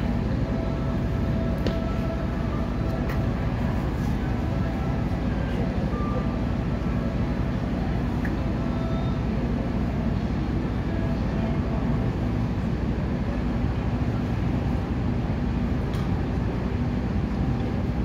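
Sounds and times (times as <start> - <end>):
low urban mechanical rumble: 0.0 - 18.0.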